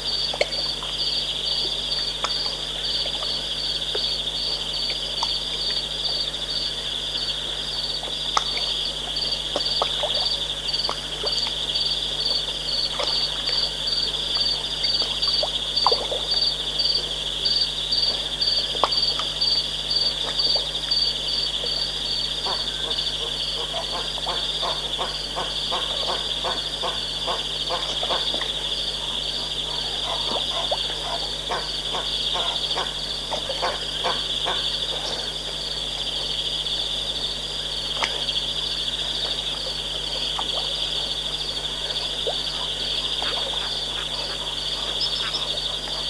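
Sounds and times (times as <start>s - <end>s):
pulsed frog call: 0.0s - 36.3s, 37.0s - 46.0s
insects trilling: 0.0s - 46.0s.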